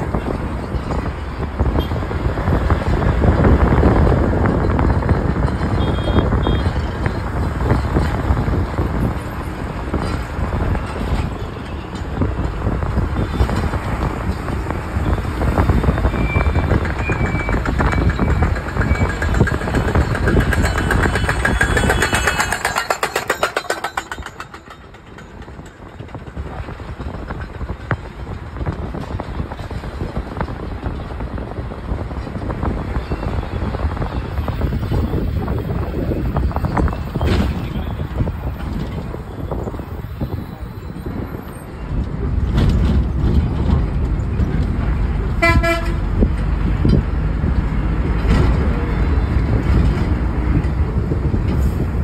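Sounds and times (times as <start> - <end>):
wind on microphone: 0.0 - 23.5, 25.3 - 52.0
tyre and engine rumble: 0.0 - 52.0.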